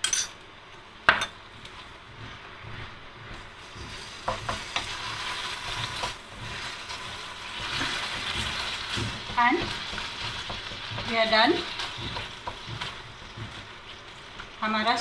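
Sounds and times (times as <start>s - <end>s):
pan sizzling: 0.0s - 15.0s
spatula knocking pan: 1.1s - 14.4s
spatula scraping frying pan: 1.2s - 15.0s.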